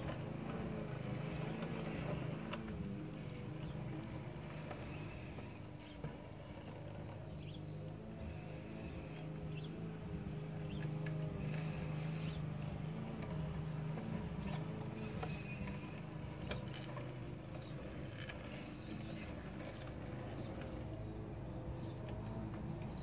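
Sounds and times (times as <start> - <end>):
model locomotive motor whirring: 0.0 - 23.0
wheels clicking on track: 0.0 - 23.0.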